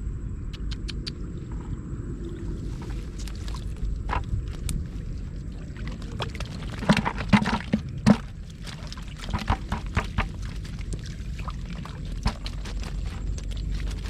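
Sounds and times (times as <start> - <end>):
water splashing and sloshing: 1.2 - 14.0.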